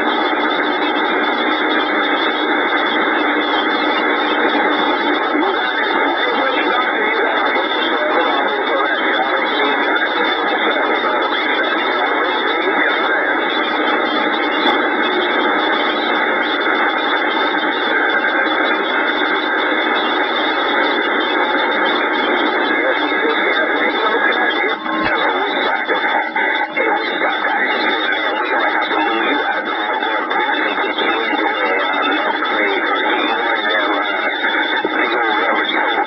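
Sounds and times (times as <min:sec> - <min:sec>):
radio static: 0:00.0 - 0:36.0.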